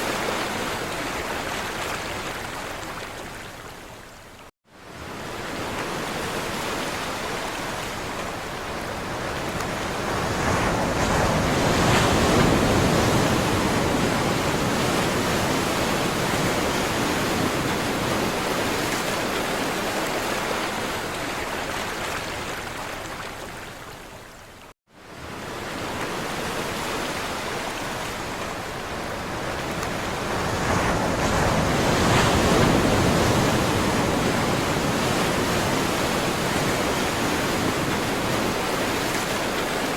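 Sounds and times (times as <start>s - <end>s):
waves breaking on shore: 0.0s - 4.2s, 4.8s - 24.1s, 25.0s - 39.9s.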